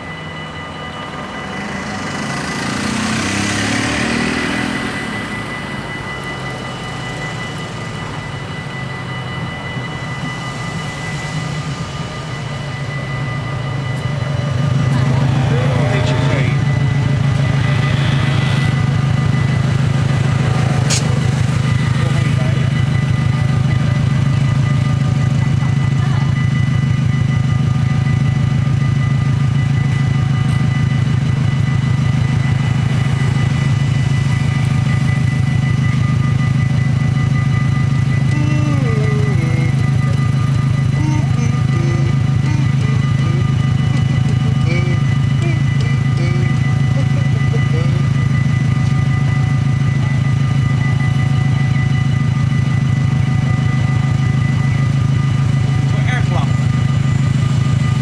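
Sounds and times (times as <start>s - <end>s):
car engines idling: 0.0s - 58.0s
level crossing warning bells: 0.0s - 58.0s.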